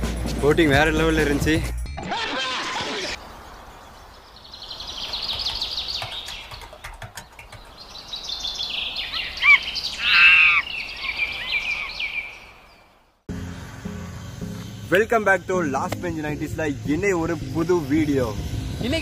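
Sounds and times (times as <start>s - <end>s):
birds chirping and trilling: 2.3s - 19.0s.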